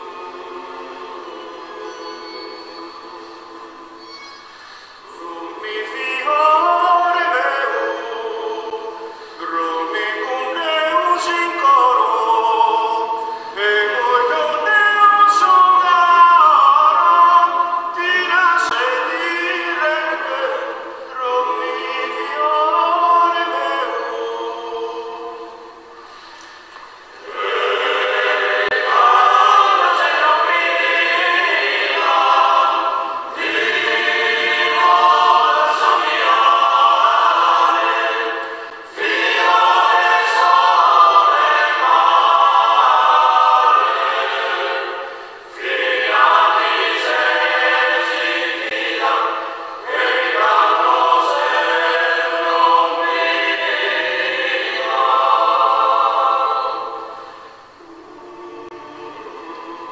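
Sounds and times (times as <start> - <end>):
men's choir singing a cappella: 0.0 - 4.3, 5.0 - 59.9.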